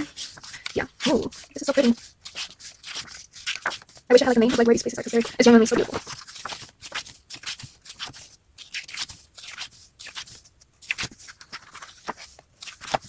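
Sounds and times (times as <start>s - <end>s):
paper pages turning: 0.0s - 13.0s.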